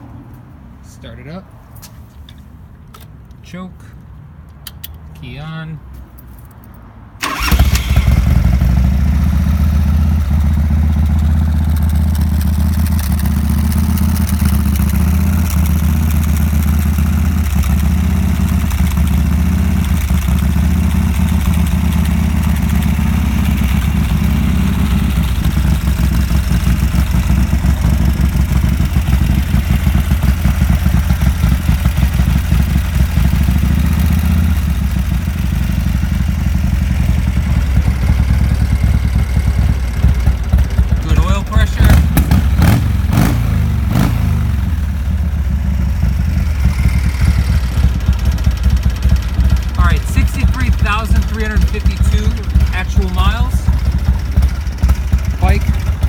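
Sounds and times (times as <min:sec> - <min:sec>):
motorcycle engine starting and idling: 0:07.2 - 0:56.0.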